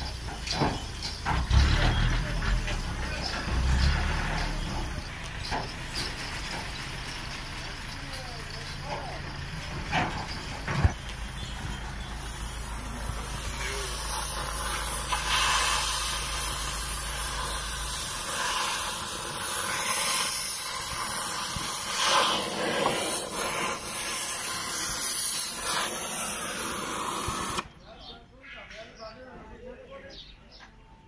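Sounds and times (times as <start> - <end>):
cutting torch hissing: 0.0 - 8.5, 9.9 - 27.7.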